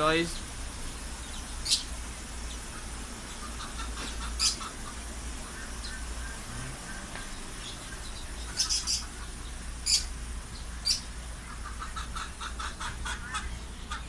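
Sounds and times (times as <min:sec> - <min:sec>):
caged birds chirping: 0:00.0 - 0:14.0.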